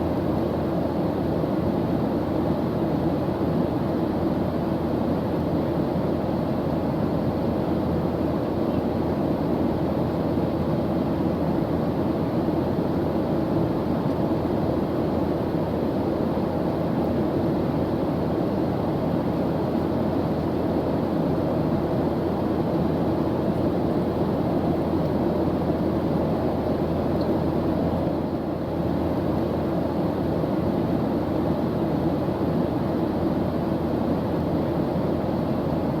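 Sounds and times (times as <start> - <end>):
airplane engine drone: 0.0 - 36.0.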